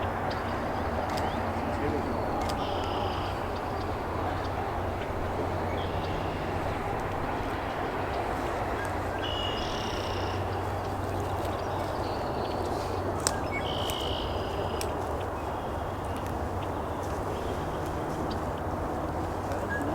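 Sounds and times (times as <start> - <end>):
outdoor background noise: 0.0 - 19.9.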